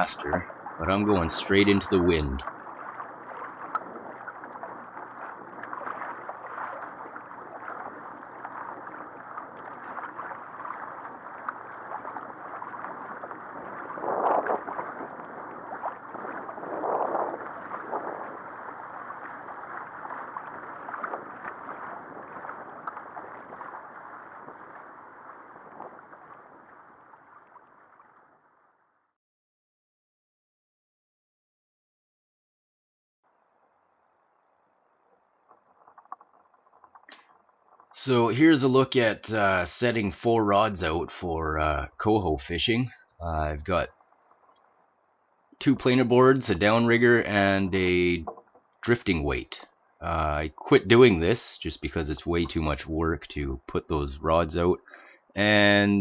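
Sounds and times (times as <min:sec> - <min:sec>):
water rushing along a hull: 0:00.0 - 0:28.9, 0:33.3 - 0:56.0.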